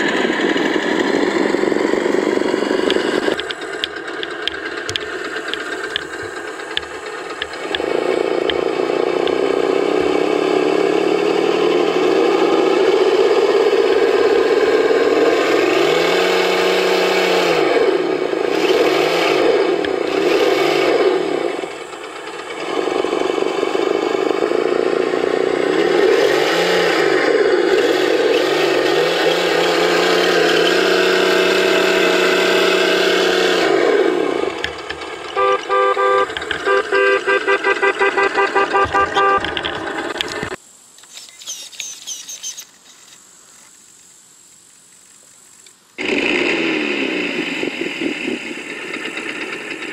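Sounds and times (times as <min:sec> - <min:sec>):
simulated engine sound revving: 0:00.0 - 0:40.6, 0:46.0 - 0:49.9.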